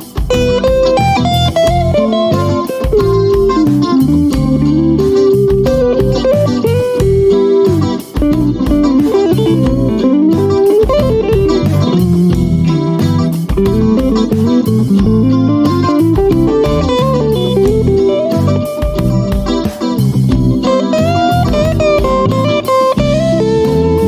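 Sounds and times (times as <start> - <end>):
bass: 0.0 - 24.0
guitar melody: 0.0 - 24.0
steady beat: 0.0 - 24.0.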